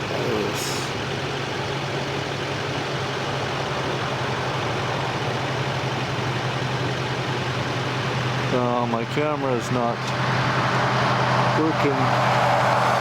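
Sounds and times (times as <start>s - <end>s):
engine drone inside vehicle: 0.0s - 13.0s
road noise: 0.0s - 13.0s.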